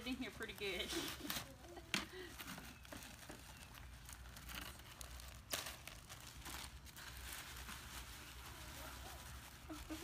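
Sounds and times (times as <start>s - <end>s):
paper and plastic bags rustling: 0.0s - 10.0s.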